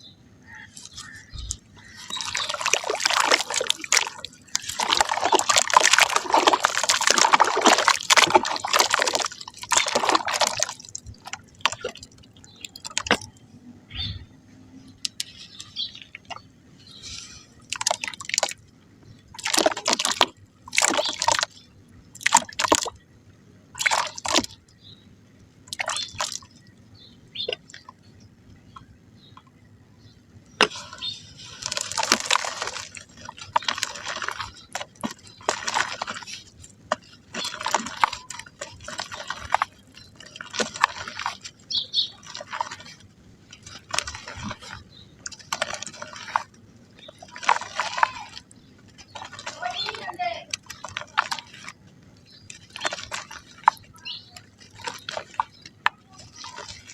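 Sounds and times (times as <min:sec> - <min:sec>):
mud crumbling into water: 0:00.4 - 0:13.4, 0:14.9 - 0:23.0, 0:23.7 - 0:24.8, 0:25.6 - 0:26.7, 0:30.5 - 0:56.9.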